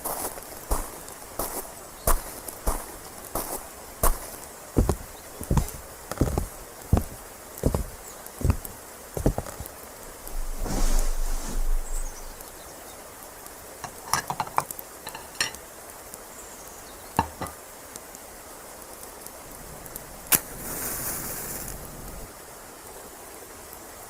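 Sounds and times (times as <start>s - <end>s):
faint outdoor ambience: 0.0s - 24.0s.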